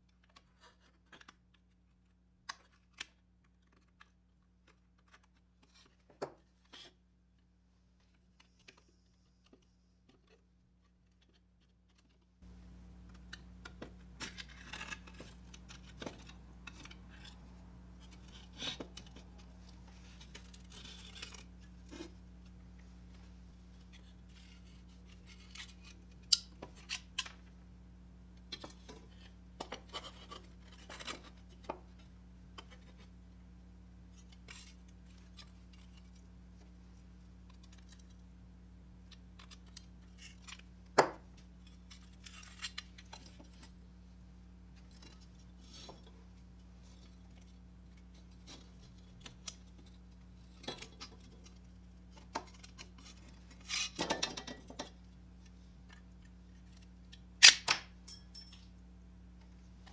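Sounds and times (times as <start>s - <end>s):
steady low hum: 4.0s - 59.9s.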